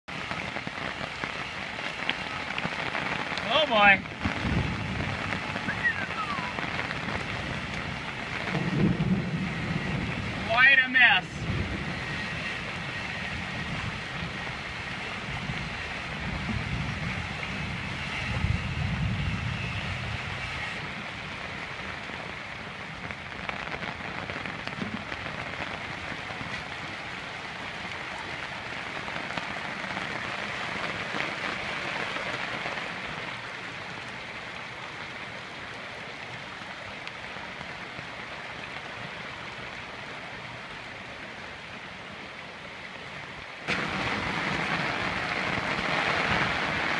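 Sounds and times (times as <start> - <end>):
floodwater rushing over rocks: 0.1 - 46.9
rain hiss: 0.1 - 46.9.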